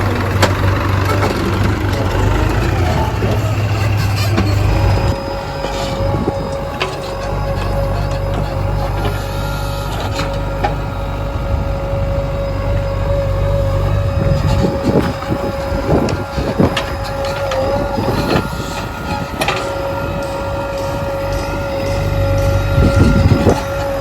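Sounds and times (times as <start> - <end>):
diesel engine whine: 0.0 - 24.0.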